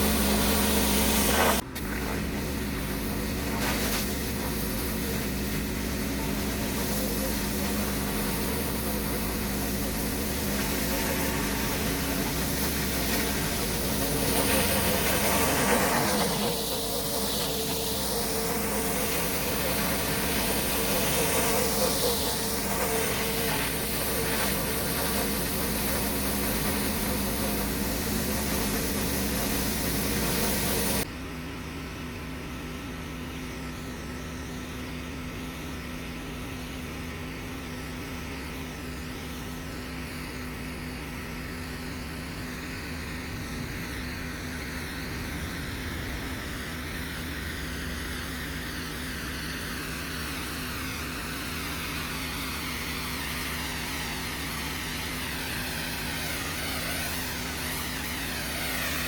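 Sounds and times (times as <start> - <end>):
pressure washer spraying concrete: 0.0 - 31.1, 37.2 - 59.0.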